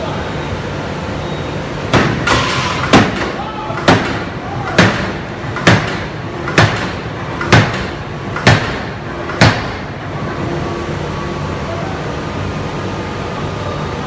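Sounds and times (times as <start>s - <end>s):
machinery background: 0.0s - 14.0s.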